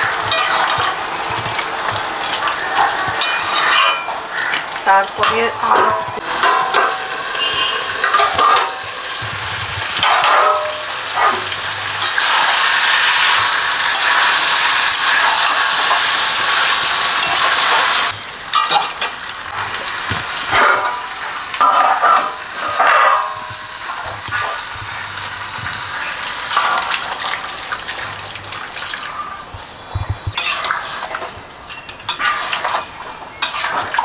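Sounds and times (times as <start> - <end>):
metal spatula scraping a pan: 0.0 - 19.8, 20.4 - 24.8, 30.4 - 34.0
curry sizzling: 0.0 - 34.0.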